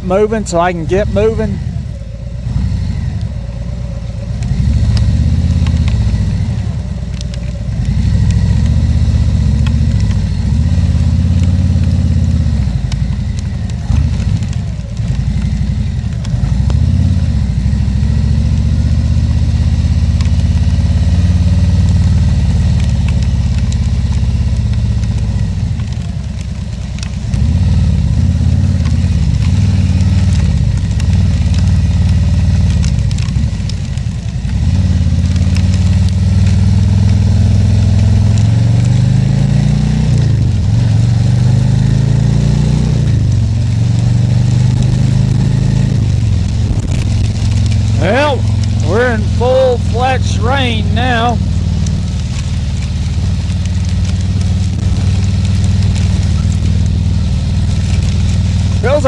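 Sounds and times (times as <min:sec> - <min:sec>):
motorcycle engine accelerating: 0:00.0 - 0:25.5, 0:34.5 - 0:59.0.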